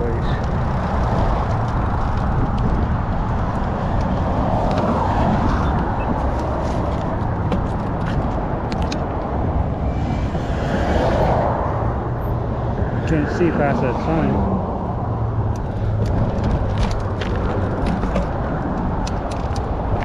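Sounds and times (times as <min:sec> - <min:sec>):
car passing: 0:00.0 - 0:07.5, 0:09.3 - 0:19.0
traffic rumble: 0:00.0 - 0:20.0.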